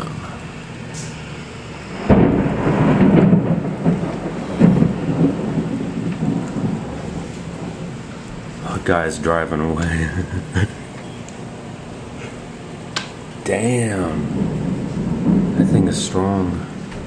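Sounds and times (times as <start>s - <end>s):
thunder crack and rumble: 1.0s - 17.0s.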